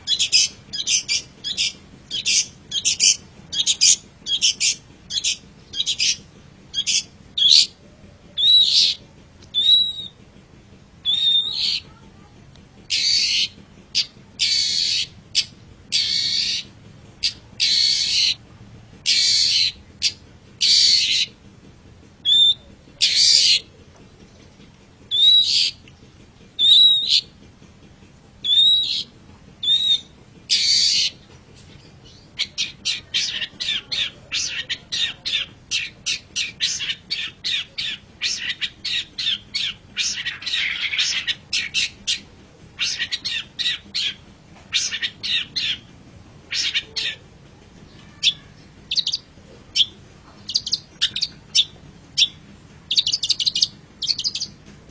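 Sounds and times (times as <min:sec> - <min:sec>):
shrike calling: 0:00.0 - 0:10.2, 0:11.0 - 0:12.0, 0:12.9 - 0:18.4, 0:19.0 - 0:21.4, 0:22.2 - 0:23.8, 0:25.1 - 0:25.8, 0:26.5 - 0:27.4, 0:28.4 - 0:54.6.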